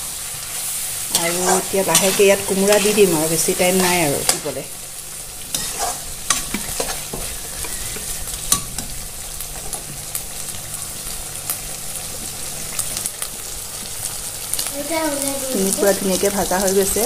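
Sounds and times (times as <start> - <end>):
meat sizzling in fat: 0.0 - 17.0.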